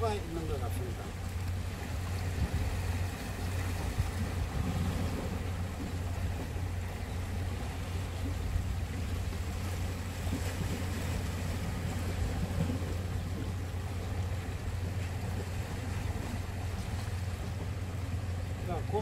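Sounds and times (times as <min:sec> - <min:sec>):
sea washing against rocks: 0:00.0 - 0:19.0
wind rumble on microphone: 0:00.0 - 0:19.0.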